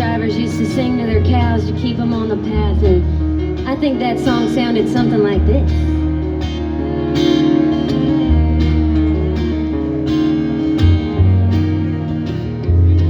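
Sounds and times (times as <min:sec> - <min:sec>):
bass line: 0:00.0 - 0:13.0
country band playing: 0:00.0 - 0:13.0
guitar: 0:00.0 - 0:13.0.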